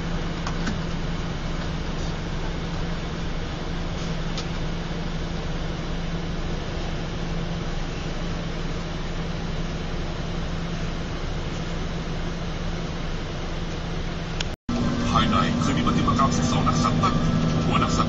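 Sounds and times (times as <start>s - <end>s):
bus engine and road noise: 0.0s - 18.0s
constant low hum: 0.0s - 18.0s.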